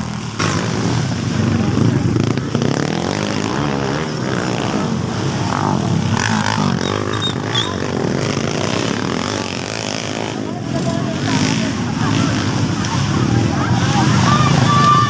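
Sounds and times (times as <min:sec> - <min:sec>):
motocross engines revving: 0:00.0 - 0:15.0.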